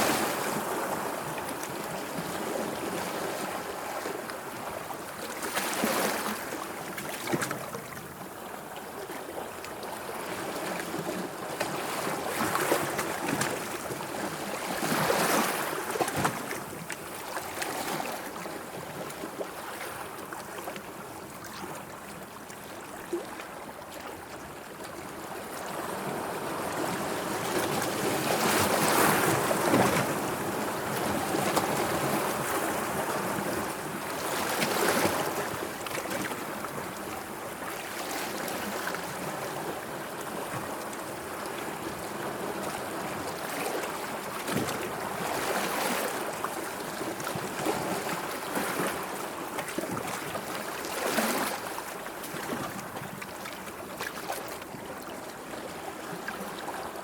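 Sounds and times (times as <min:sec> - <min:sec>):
sea water washing and lapping: 0:00.0 - 0:57.0.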